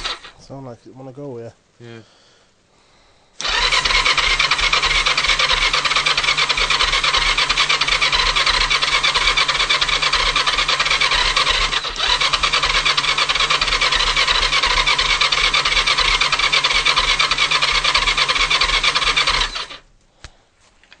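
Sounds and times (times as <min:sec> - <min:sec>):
electric starter cranking engine: 0:00.0 - 0:00.4, 0:03.4 - 0:19.8.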